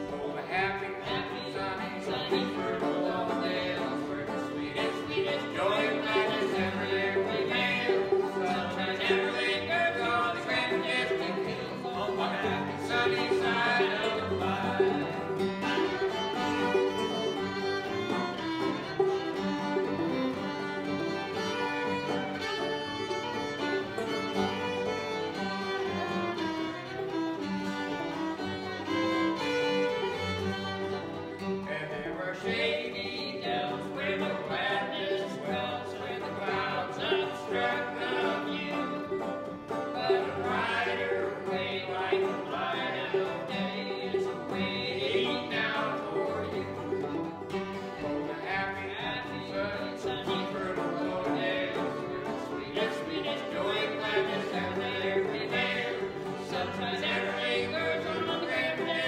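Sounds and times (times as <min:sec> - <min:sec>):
string band playing a tune: 0:00.0 - 0:59.0.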